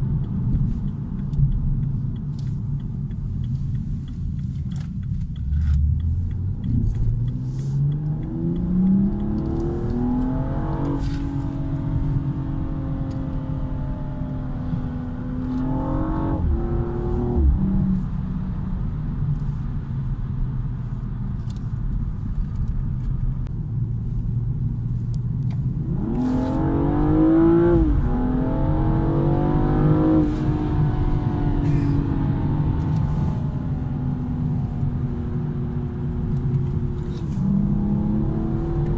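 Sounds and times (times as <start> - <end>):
car engine accelerating through gears: 0.0 - 19.9, 24.0 - 38.9.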